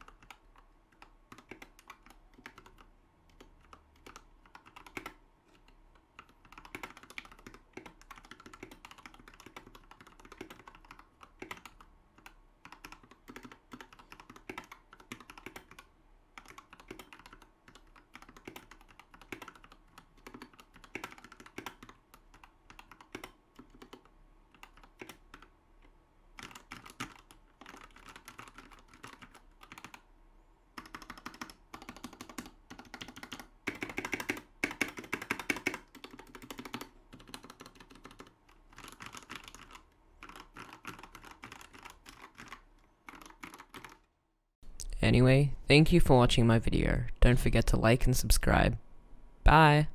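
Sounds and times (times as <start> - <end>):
typing on mechanical keyboard: 0.0 - 25.5, 26.4 - 30.1, 30.8 - 44.1.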